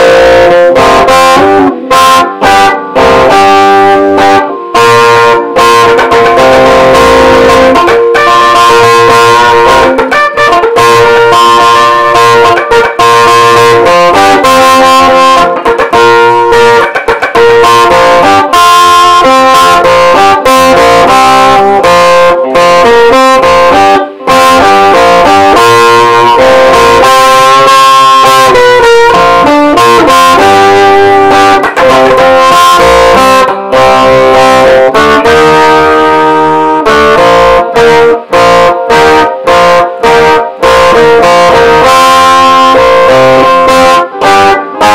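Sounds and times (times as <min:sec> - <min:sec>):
electric guitar rock tune: 0:00.0 - 0:44.9.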